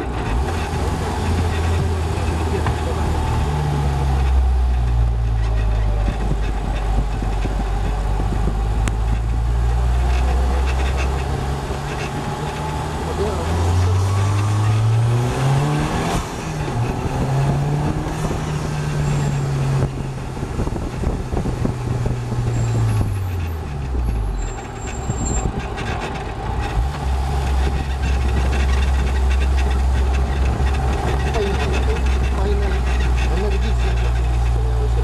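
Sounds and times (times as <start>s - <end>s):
car engine: 0.0s - 35.0s.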